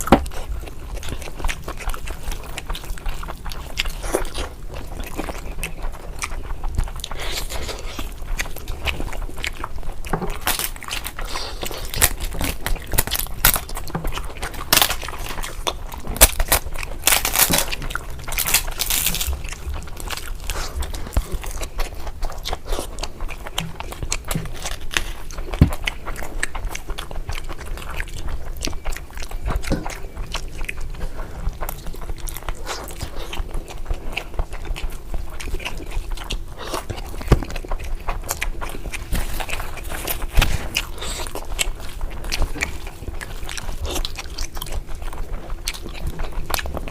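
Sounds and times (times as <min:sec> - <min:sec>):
chewing and wet smacking: 0:00.0 - 0:46.9.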